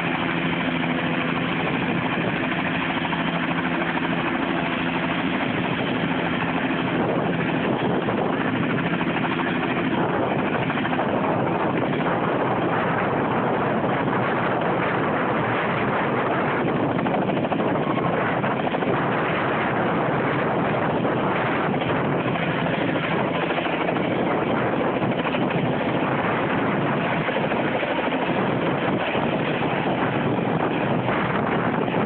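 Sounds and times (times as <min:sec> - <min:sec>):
helicopter taking off: 0:00.0 - 0:32.0.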